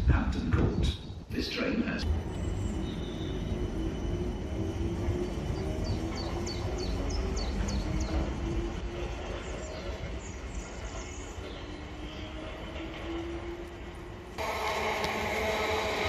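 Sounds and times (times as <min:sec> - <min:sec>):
train wheels rumbling on rails: 0:02.0 - 0:16.0.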